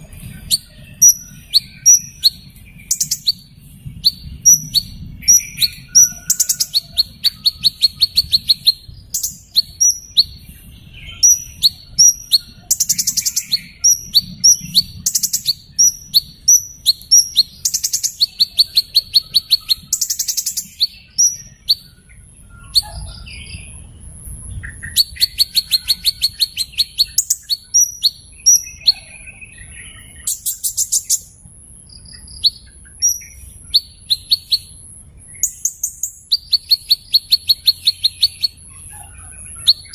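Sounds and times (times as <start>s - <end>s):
faint low rumble: 0.0s - 36.7s
small bird chirping and trilling: 0.0s - 39.9s.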